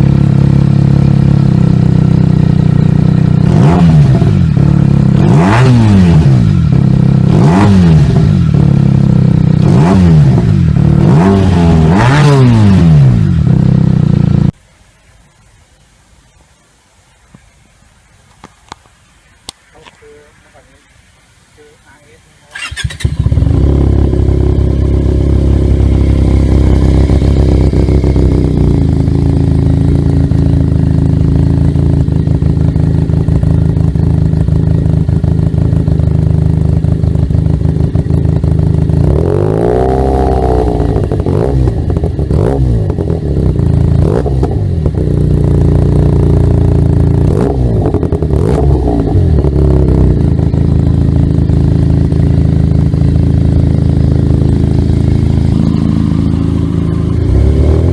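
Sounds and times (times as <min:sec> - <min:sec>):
motorcycle engine idling and revving: 0:00.0 - 0:14.6, 0:22.5 - 0:57.9.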